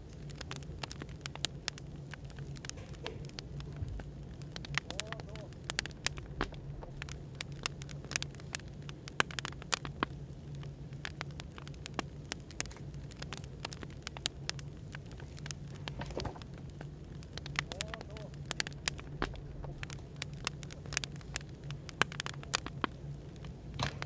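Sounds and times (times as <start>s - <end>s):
low background hum: 0.0s - 24.0s
wood fire crackling: 0.0s - 24.0s.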